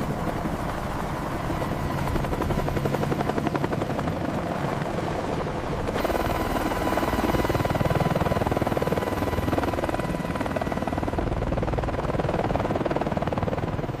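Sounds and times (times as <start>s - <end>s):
helicopter rotor chop: 0.0s - 14.0s
turbine whine: 0.0s - 14.0s.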